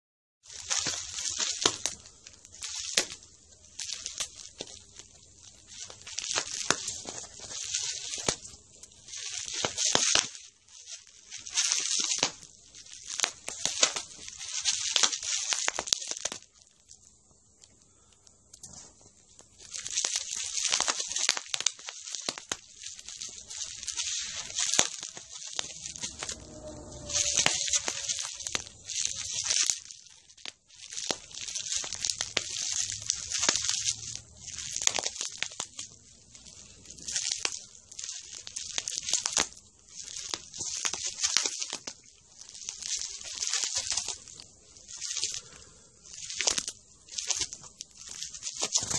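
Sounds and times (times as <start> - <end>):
bubble wrap popping: 0.5 - 17.8, 18.6 - 48.9
plastic crinkling and rustling: 0.5 - 48.9.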